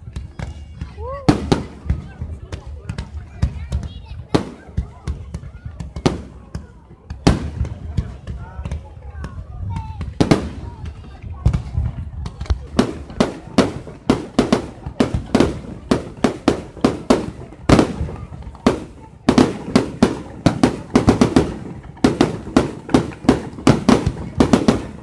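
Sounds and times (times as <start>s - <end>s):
fireworks sharp bangs: 0.2s - 25.0s.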